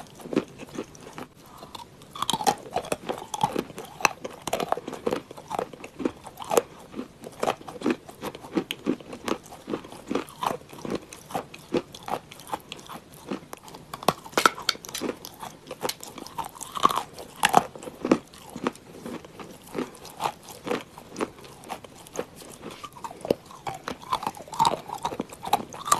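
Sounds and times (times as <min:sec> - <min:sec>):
crunchy chewing of clay: 0:00.0 - 0:25.9.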